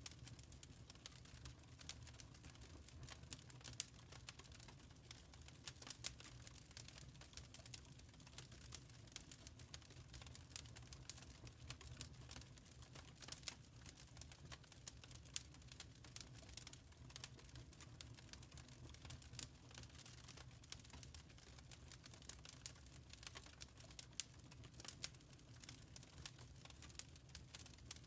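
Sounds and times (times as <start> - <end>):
faint wood fire crackling: 0.0 - 28.0
low steady fire rumble: 0.0 - 28.0.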